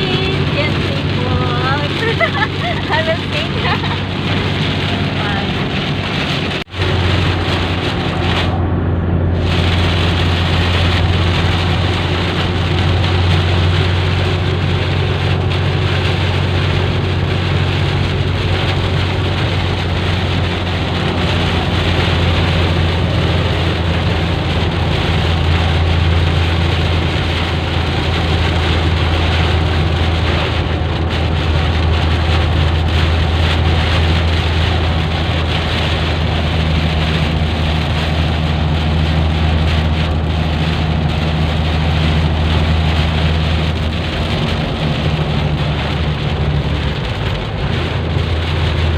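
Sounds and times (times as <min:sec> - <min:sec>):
engine and tyre drone: 0:00.0 - 0:48.9
heavy rain on car: 0:00.0 - 0:48.9.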